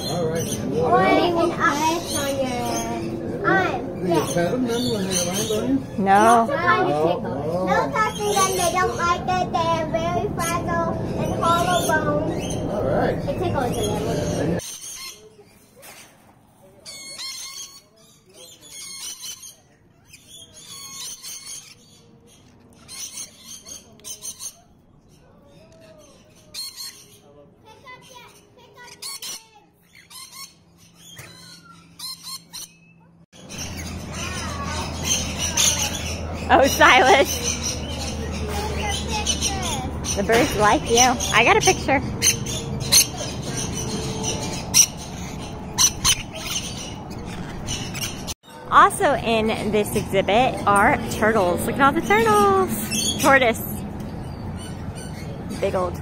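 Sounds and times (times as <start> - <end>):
lorikeets chattering and screeching: 0.0 - 16.0, 16.7 - 56.0.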